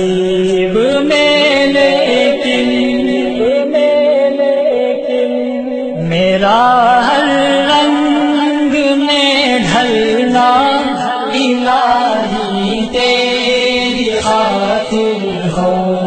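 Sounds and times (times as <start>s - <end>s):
person singing devotional song: 0.0s - 16.0s.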